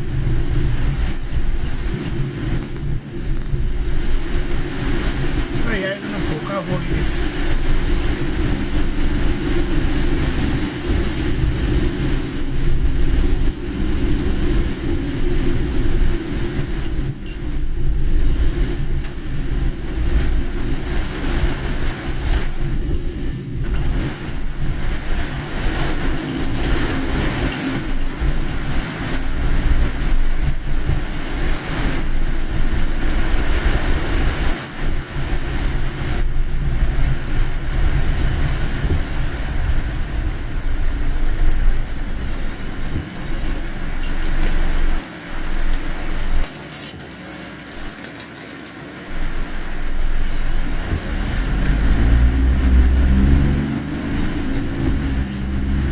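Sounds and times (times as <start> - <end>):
car engine and tyres rumbling: 0.0 - 55.9.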